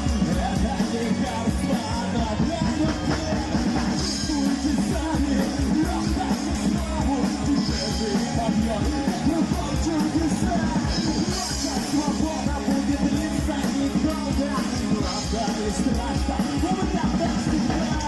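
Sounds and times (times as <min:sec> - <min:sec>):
person singing: 0:00.0 - 0:18.0
rock band playing: 0:00.0 - 0:18.0.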